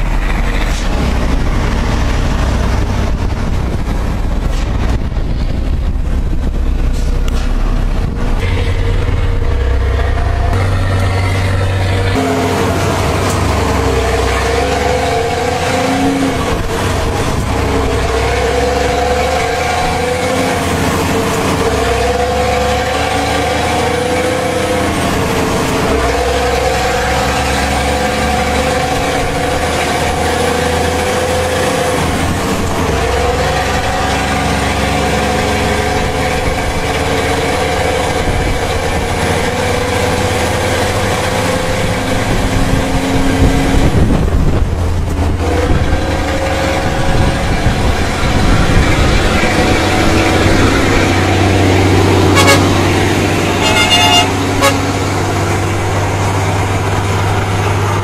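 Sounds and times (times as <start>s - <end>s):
pickup engine hum: 0.0s - 58.0s
tyre and road rumble: 0.0s - 58.0s.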